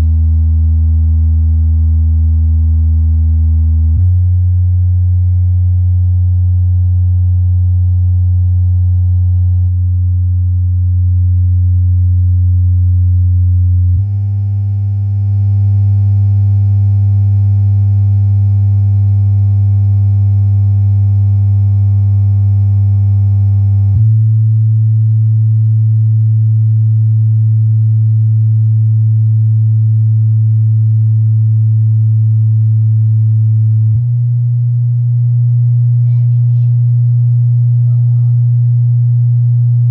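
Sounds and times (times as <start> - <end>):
subwoofer playing low test tones: 0.0 - 39.9.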